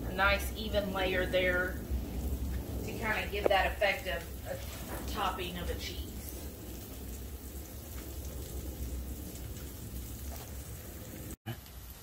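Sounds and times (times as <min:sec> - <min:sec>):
low rumble: 0:00.0 - 0:11.4
pizza sizzling on griddle: 0:00.0 - 0:12.0.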